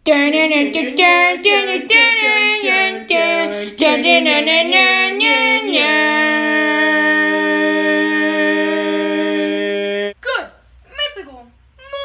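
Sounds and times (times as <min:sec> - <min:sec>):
high voice singing: 0:00.0 - 0:10.2.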